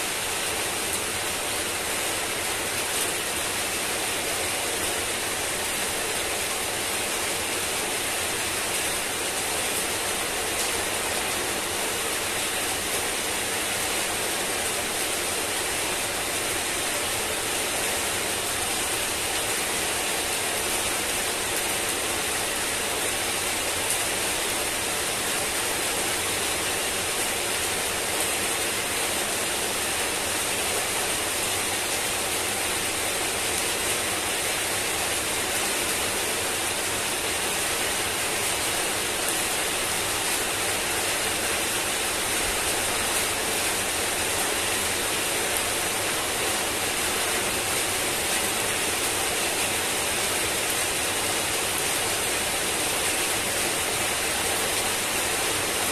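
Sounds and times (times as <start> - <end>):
heavy rain on paving and leaves: 0.0 - 55.9.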